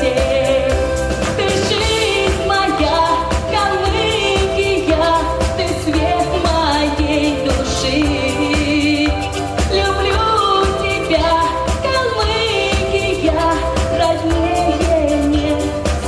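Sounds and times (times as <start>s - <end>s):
backing track with steady beat: 0.0s - 16.0s
person singing pop melody: 0.0s - 16.0s.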